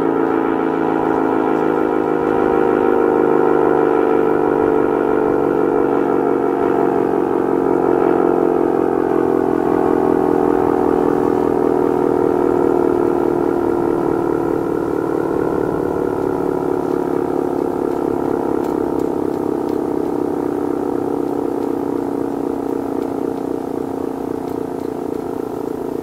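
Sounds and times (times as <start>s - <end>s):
warning siren steady tone: 0.0s - 26.0s.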